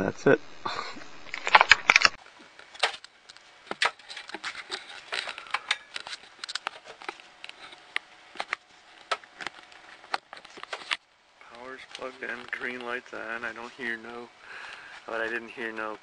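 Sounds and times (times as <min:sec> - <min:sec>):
faint steady hum: 0:00.0 - 0:16.0
hands handling cables and plastic: 0:01.3 - 0:16.0.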